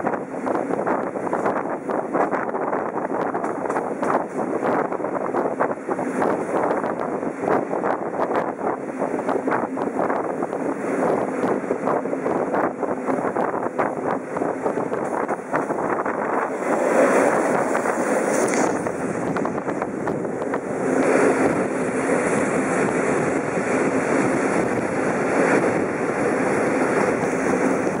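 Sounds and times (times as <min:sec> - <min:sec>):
passing locomotive: 0:00.0 - 0:28.0
train wheels rumbling on rails: 0:00.0 - 0:28.0
wind on microphone: 0:00.0 - 0:28.0.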